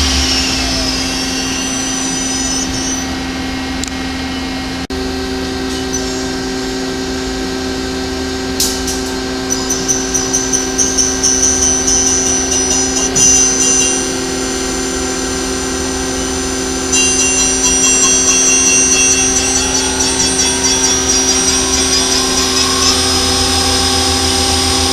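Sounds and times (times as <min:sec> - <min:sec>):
high-pitched pulsing ringing: 0:00.0 - 0:24.9
machine hum: 0:00.0 - 0:24.9.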